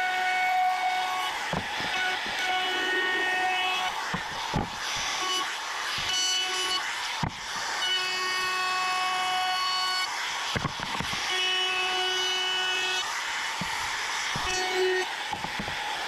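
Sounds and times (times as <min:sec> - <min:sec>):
trim router whining: 0:00.0 - 0:16.0.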